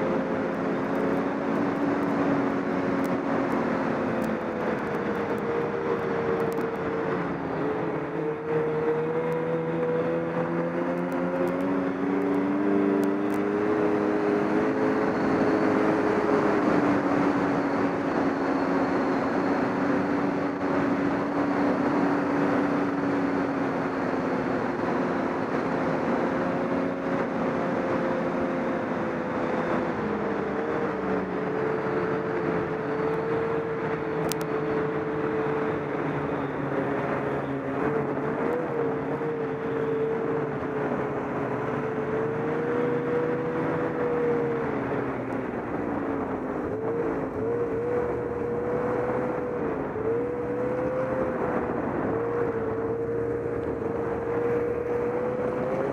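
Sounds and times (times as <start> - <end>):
snowmobile engine running: 0.0 - 55.9
steady rushing noise: 0.0 - 55.9.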